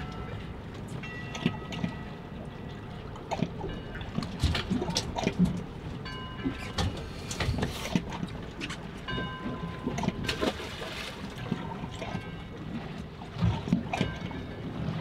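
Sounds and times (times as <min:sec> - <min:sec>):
water lapping against boat: 0:00.0 - 0:15.0.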